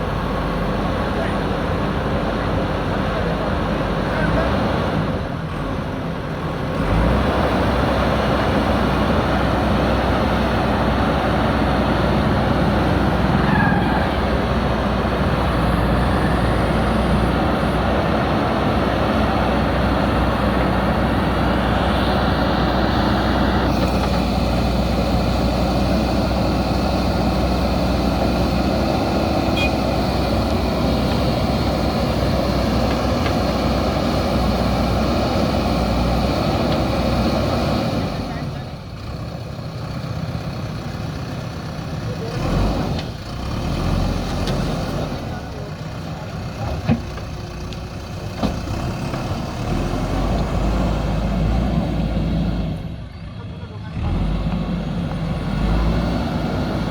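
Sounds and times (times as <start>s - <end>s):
diesel engine rumbling: 0.0s - 56.9s.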